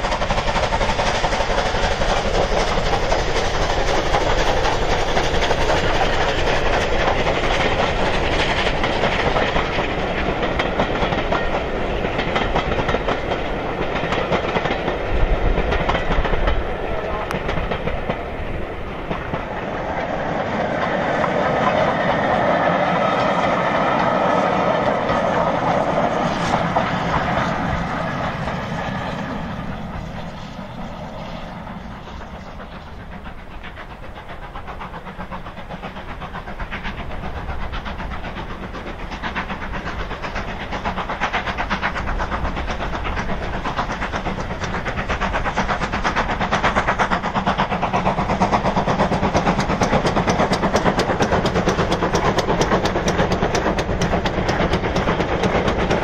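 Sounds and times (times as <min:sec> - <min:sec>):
distant train: 0:00.0 - 0:56.0
steam locomotive beating: 0:00.0 - 0:56.0.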